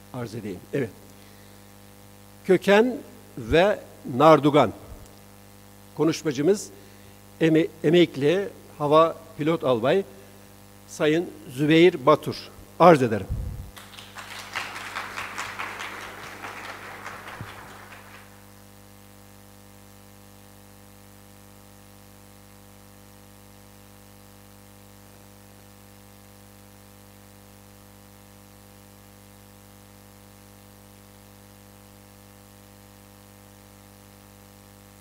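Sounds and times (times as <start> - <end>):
electrical hum with hiss: 0.0 - 35.0.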